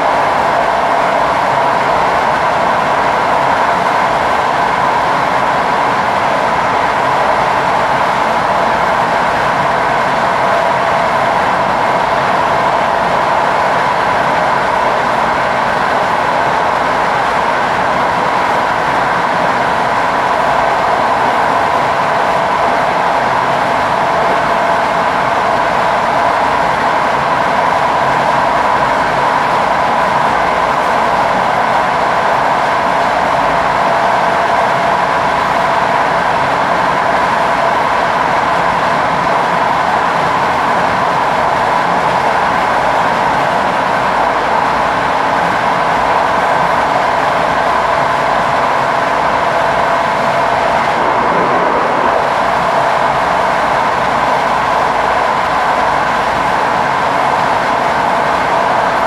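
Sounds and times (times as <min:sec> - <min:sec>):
train running noise with whine: 0:00.0 - 0:59.0.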